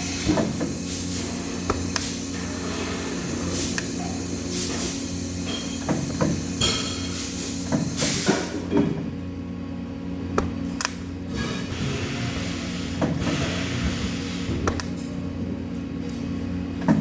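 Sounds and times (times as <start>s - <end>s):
workshop machinery hum: 0.0s - 17.0s.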